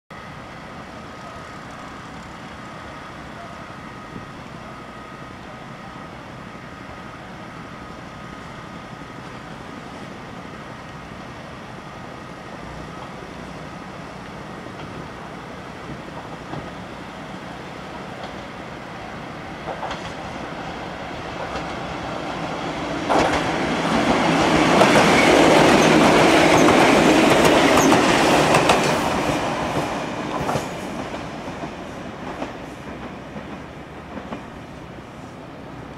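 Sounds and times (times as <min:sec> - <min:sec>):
electric train passing: 0:00.2 - 0:35.9.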